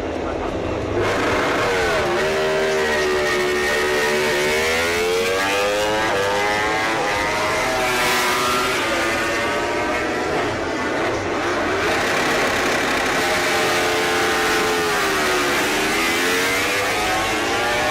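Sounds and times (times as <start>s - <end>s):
racing motorcycle engine: 0.6s - 17.9s.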